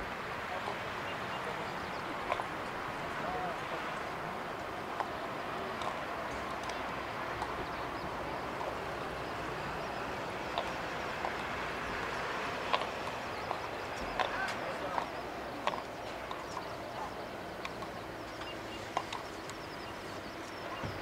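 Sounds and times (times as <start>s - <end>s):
distant jet engine: 0.0s - 21.0s.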